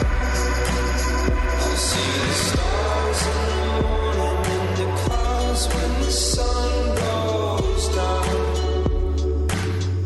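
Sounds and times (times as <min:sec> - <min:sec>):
pop song with beat and bass: 0:00.0 - 0:10.0.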